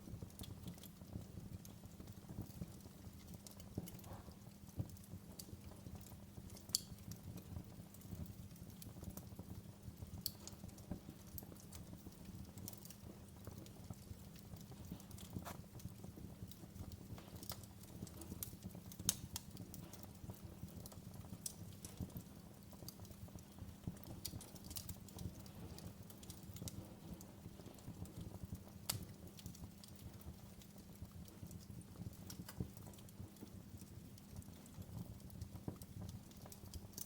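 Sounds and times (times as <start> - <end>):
fire flames rumbling: 0.0 - 37.0
wood fire crackling and popping: 0.0 - 37.0.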